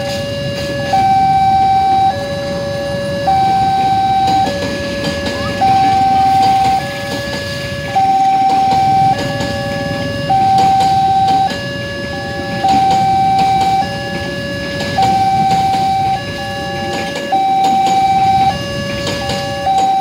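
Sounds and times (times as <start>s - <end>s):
train passing rumble: 0.0s - 20.0s
two-tone crossing alarm: 0.0s - 20.0s.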